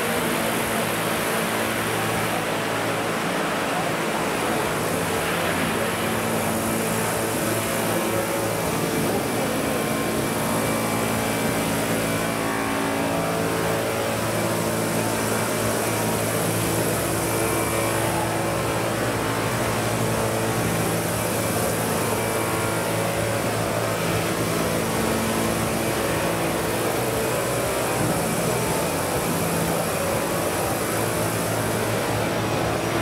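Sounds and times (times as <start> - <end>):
model helicopter rotor drone: 0.0 - 33.0.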